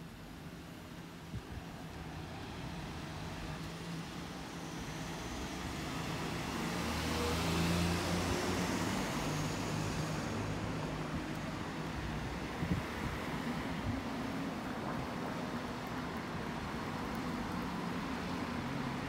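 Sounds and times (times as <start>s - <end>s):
cars passing close by: 1.9s - 19.0s.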